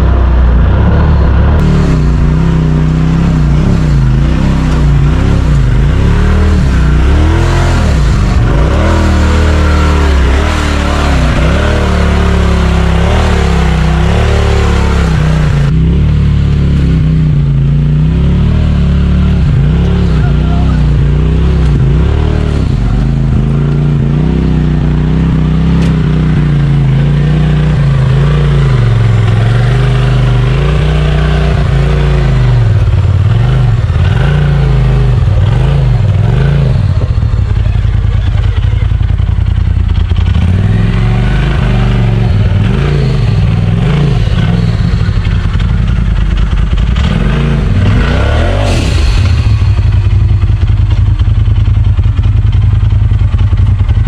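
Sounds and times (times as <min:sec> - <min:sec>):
utv engine revving: 0:00.0 - 0:54.0.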